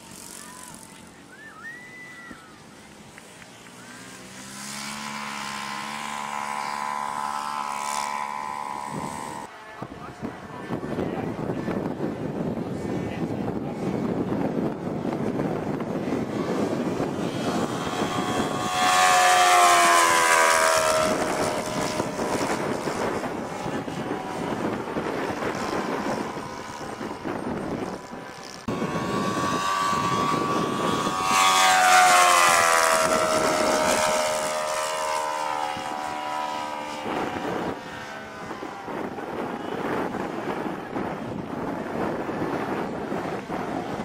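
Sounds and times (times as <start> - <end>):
model airplane engine passing: 0.0 - 44.0.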